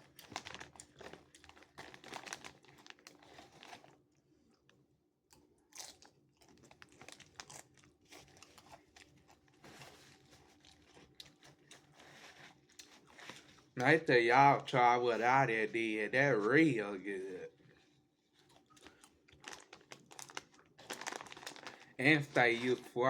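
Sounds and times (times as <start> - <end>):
chewing crunchy chips: 0.0 - 15.6, 16.6 - 23.0.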